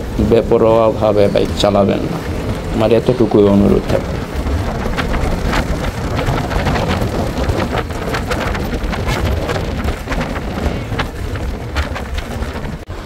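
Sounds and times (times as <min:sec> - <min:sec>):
bus engine and road rumble: 0:00.0 - 0:13.0
small rattles and clicks: 0:00.6 - 0:12.9.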